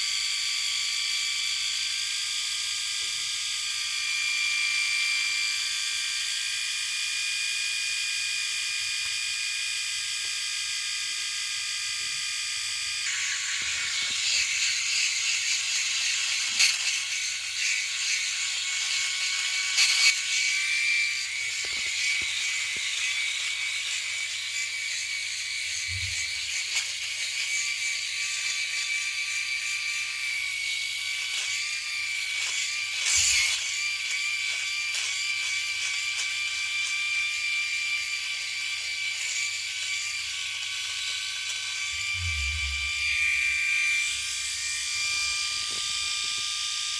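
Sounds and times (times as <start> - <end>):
electric shaver buzzing: 0.0 - 46.9.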